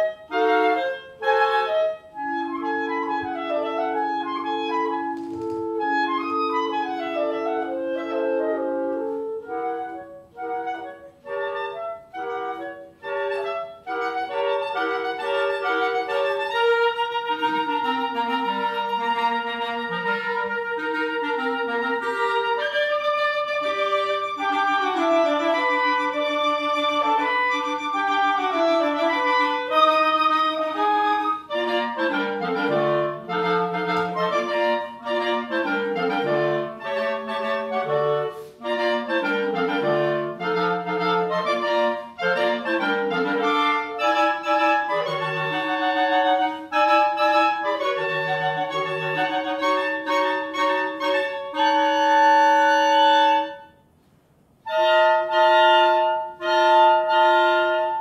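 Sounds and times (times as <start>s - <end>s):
clarinet quartet playing: 0.0s - 58.0s.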